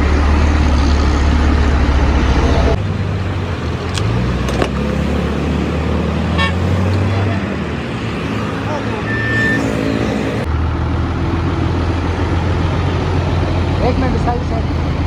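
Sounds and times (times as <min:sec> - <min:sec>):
heavy vehicle engine running: 0:00.0 - 0:15.0
road traffic: 0:00.0 - 0:15.0.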